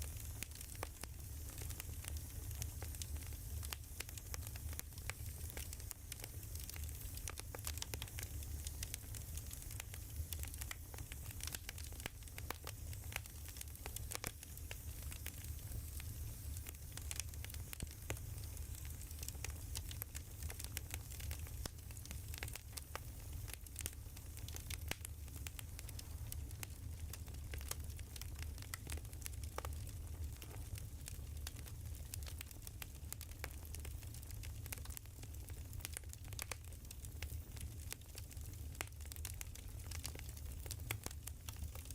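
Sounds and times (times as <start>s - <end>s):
firewood crackling: 0.0s - 41.9s.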